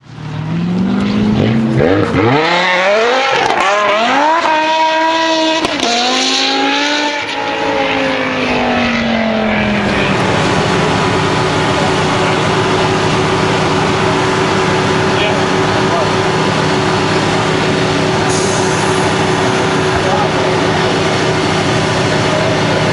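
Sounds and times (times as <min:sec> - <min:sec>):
car engine revving on dyno: 0:00.3 - 0:22.9.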